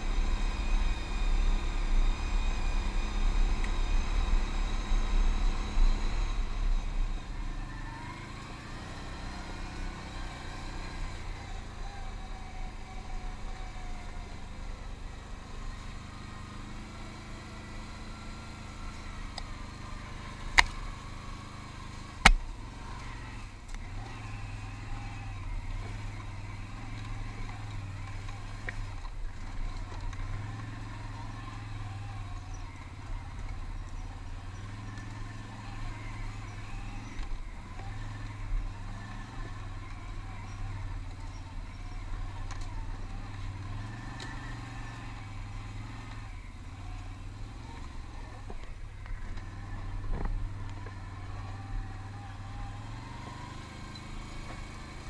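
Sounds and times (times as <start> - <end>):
atv engine humming: 0.0 - 55.0.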